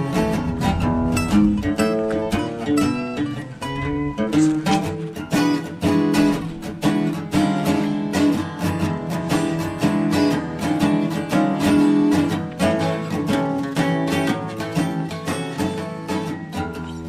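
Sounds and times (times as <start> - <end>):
acoustic guitar plucking and strumming: 0.0 - 17.0.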